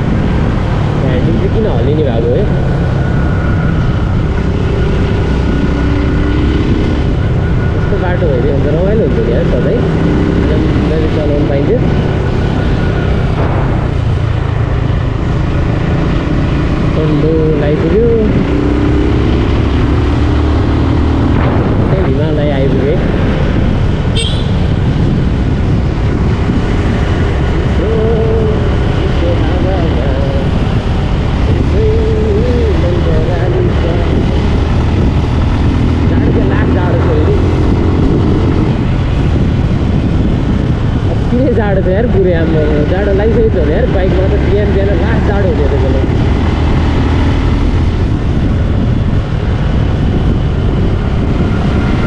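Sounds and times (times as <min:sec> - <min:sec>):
motorcycle engine and wind rumble: 0:00.0 - 0:52.0
road noise: 0:00.0 - 0:52.0.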